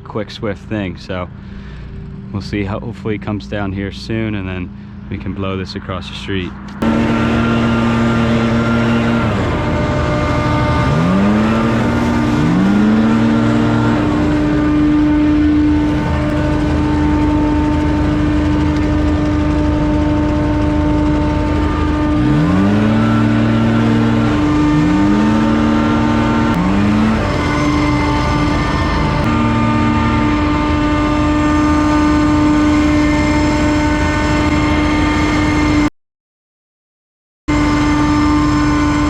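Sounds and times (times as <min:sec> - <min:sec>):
small engines running at high speed: 0:00.0 - 0:35.9, 0:37.5 - 0:39.0.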